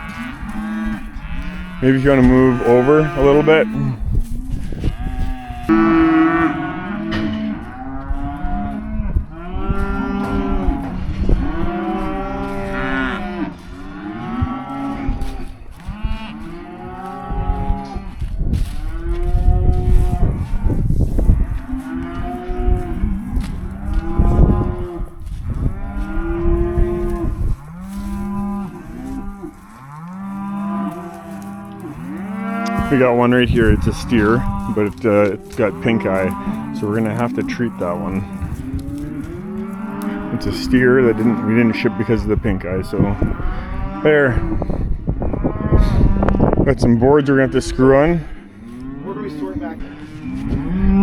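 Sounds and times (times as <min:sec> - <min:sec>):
calves bawling loudly: 0:00.0 - 0:18.2, 0:18.8 - 0:46.5
cattle moving in a pen: 0:00.0 - 0:51.0.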